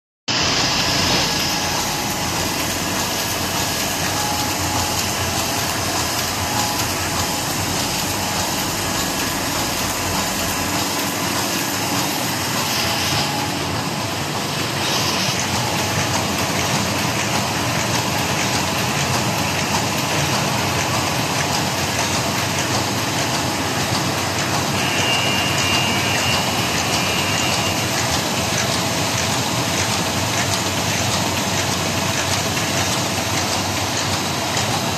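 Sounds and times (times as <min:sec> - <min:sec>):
laminating machine running: 0:00.3 - 0:34.9.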